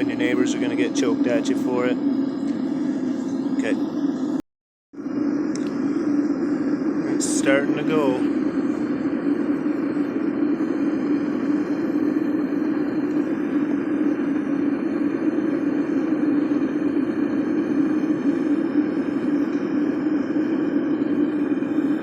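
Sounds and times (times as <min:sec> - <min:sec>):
furnace burner flame rushing: 0:00.0 - 0:04.4, 0:05.0 - 0:22.0.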